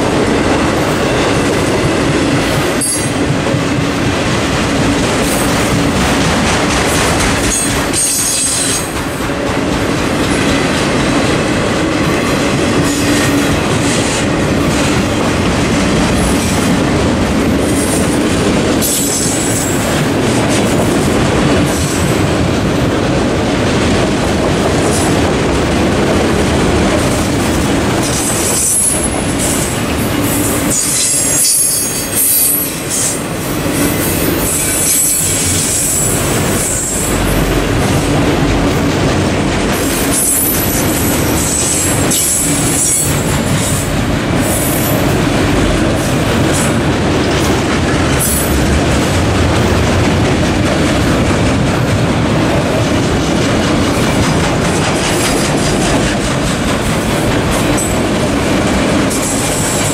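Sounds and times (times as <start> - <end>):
freight train rumble and clatter: 0.0 - 59.9.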